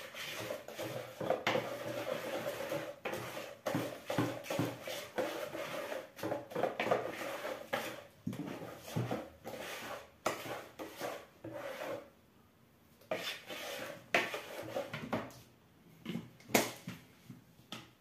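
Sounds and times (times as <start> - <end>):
spoon stirring batter in bowl: 0.0 - 12.2, 13.0 - 15.5.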